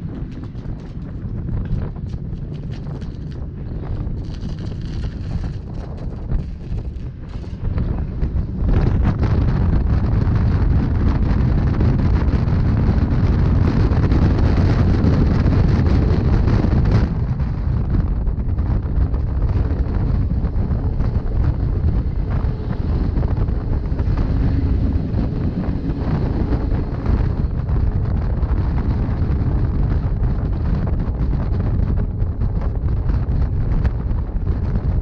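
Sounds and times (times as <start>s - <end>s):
train wheels rumbling on rails: 0.0s - 35.0s
wind on microphone: 0.0s - 35.0s.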